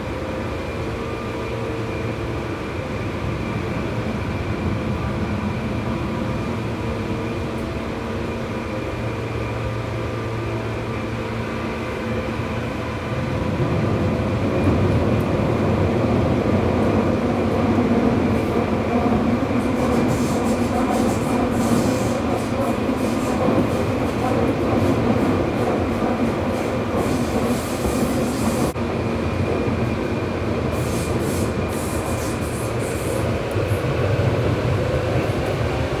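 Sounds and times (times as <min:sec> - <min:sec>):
subway train running: 0:00.0 - 0:36.0.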